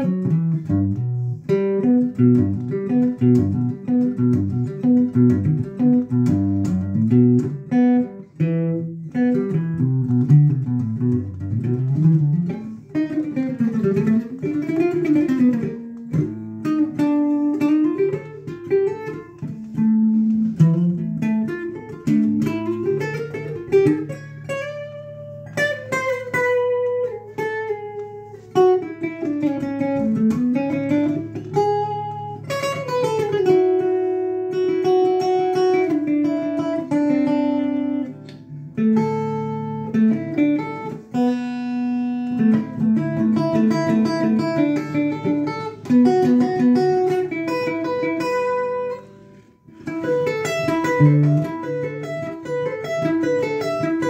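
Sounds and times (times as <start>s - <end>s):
electric guitar picking arpeggios: 0.0s - 54.0s.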